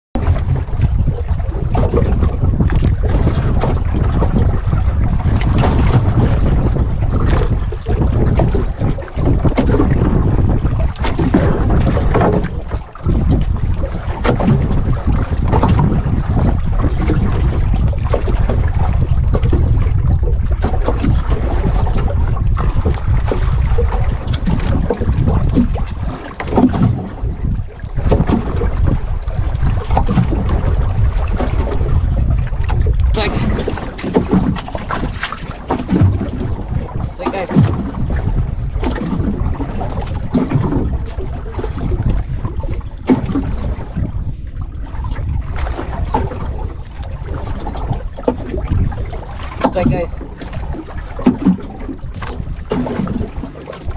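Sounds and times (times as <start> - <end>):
choppy water washing hull: 0.1 - 53.9
wind buffeting microphone: 0.2 - 53.9.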